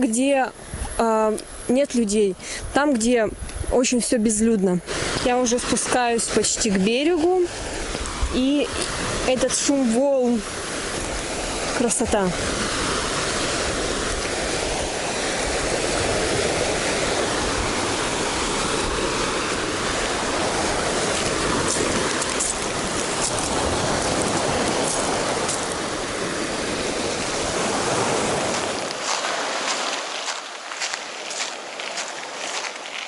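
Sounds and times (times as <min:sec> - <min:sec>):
surf washing up shell beach: 0:00.1 - 0:33.0.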